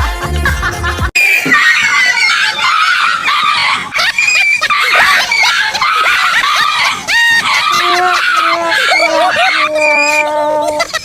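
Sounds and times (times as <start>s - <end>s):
dog yelping and whining: 1.5s - 11.0s.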